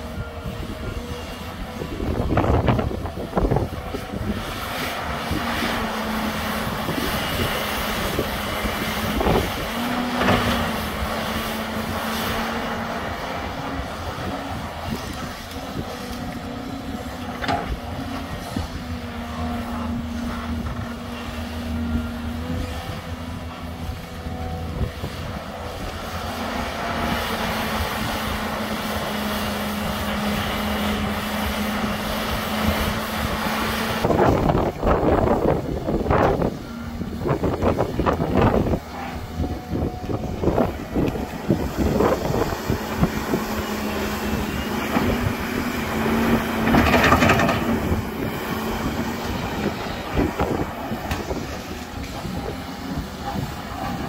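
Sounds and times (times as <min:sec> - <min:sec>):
excavator engine and hydraulics droning: 0:00.0 - 0:54.0.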